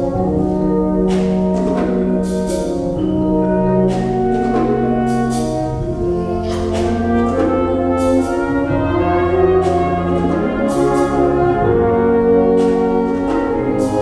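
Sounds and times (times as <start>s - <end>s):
brass band chords: 0.0s - 14.0s
percussion strokes: 0.0s - 14.0s.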